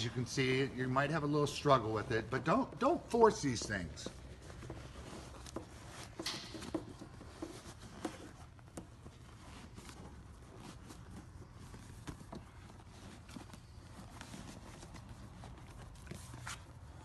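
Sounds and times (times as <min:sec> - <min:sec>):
vinyl cover rustling: 0:00.0 - 0:17.0.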